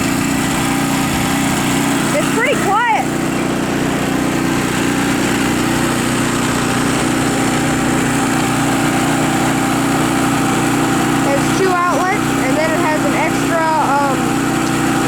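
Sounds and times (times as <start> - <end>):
portable generator engine running: 0.0 - 15.0.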